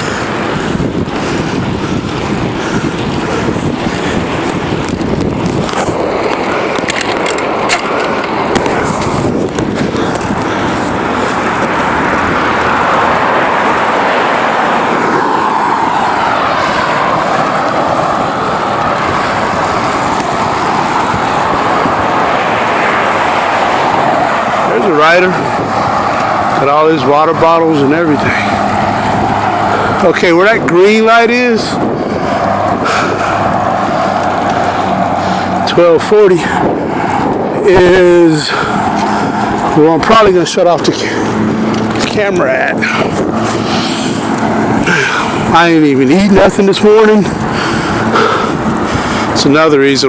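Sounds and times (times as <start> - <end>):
passing car traffic: 0.0 - 50.0
tyres rolling on pavement: 0.0 - 50.0
wind on microphone: 0.0 - 50.0.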